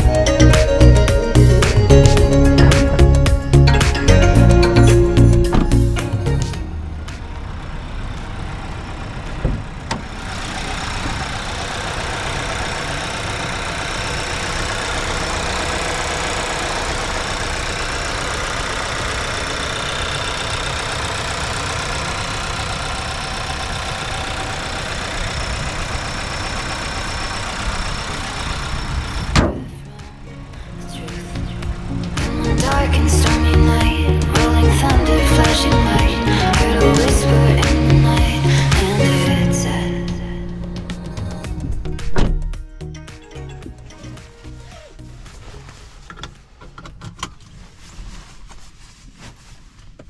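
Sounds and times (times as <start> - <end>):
car engine running: 0.0 - 48.0
road noise: 0.0 - 50.0.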